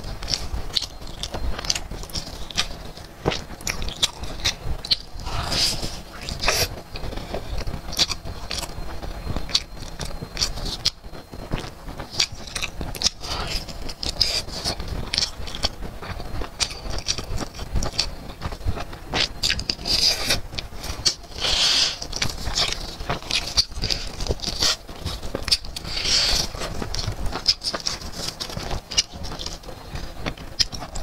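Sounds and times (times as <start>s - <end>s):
chewing crispy fried chicken: 0.0s - 31.0s.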